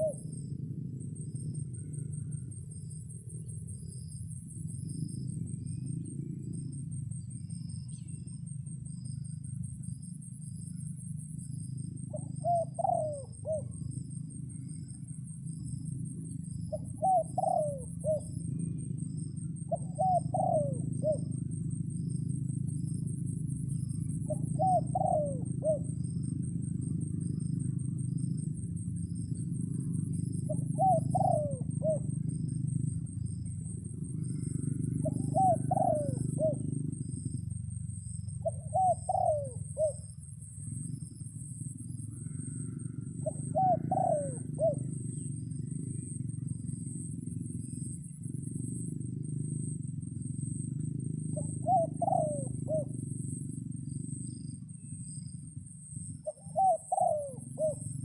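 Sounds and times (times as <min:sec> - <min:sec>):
dove cooing: 0:00.0 - 0:58.0
insects trilling: 0:00.0 - 0:58.0.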